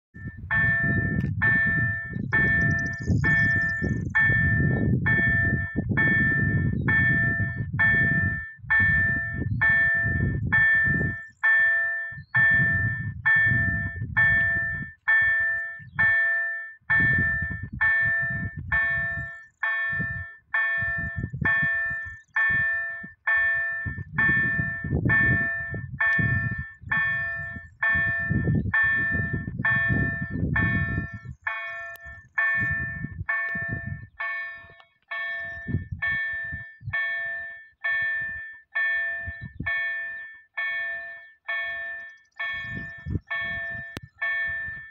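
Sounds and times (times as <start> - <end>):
level crossing warning bell ringing: 0.2 - 44.9.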